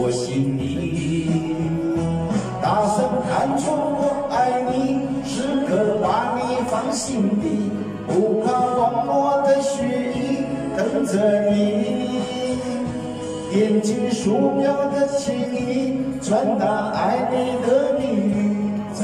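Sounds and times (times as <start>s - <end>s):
backing track music: 0.0s - 19.0s
man singing a pop ballad: 0.0s - 19.0s.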